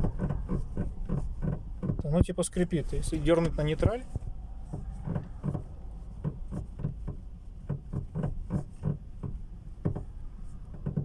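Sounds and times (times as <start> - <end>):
gear lever creaking: 0.0 - 11.0
steady low hum: 0.0 - 11.0.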